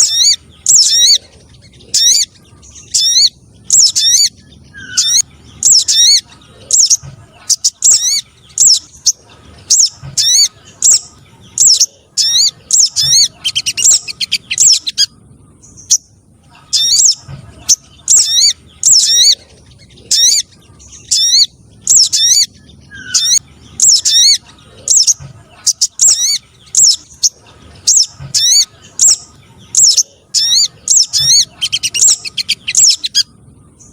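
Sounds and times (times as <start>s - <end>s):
bird chirping call notes: 0.0s - 33.9s.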